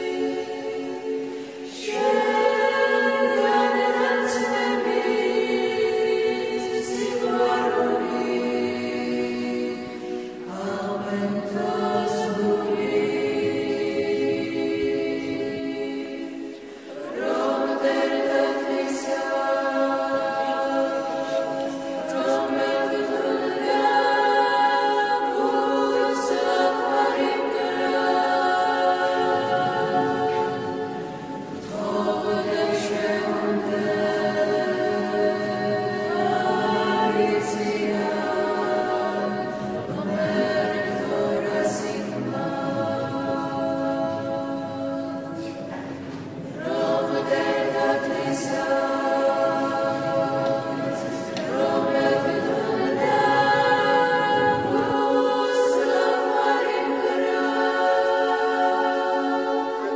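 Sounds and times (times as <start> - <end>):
choir chanting a cappella: 0.0 - 59.9.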